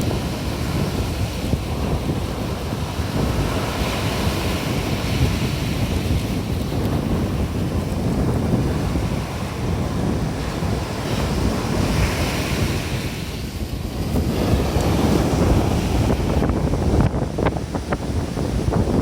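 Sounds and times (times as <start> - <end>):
sea waves breaking: 0.0 - 19.0
surf crackling: 0.0 - 19.0
wind buffeting microphone: 0.0 - 19.0.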